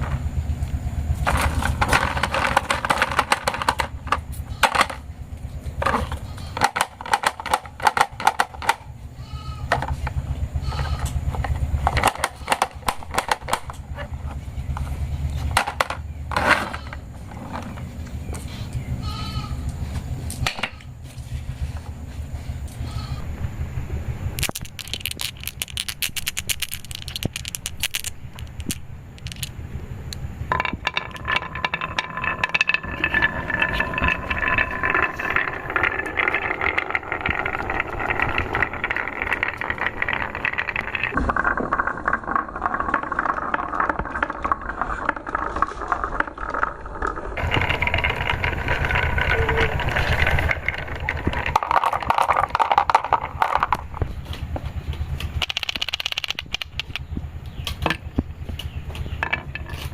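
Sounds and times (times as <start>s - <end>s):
marbles clattering down track: 0.0s - 18.4s, 24.3s - 59.9s.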